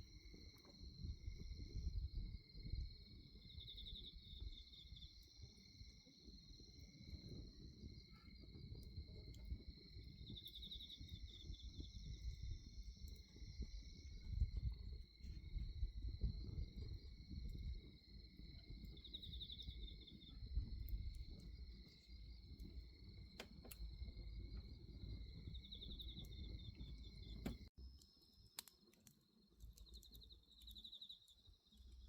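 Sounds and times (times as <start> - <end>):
bonfire burning: 0.0 - 32.0
crickets chirping: 0.0 - 32.0
fire crackling: 0.0 - 32.0.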